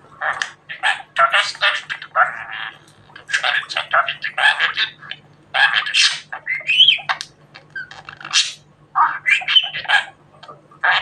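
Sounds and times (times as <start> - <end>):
budgerigar chattering: 0.2 - 7.2, 7.8 - 10.2.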